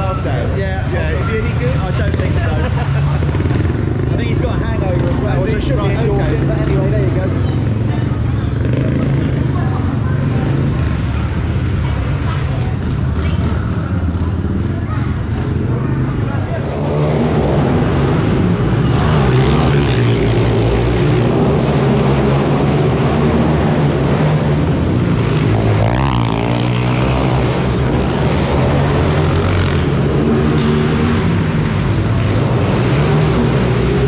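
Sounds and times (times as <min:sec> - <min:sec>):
minibike engines revving: 0:00.0 - 0:34.0.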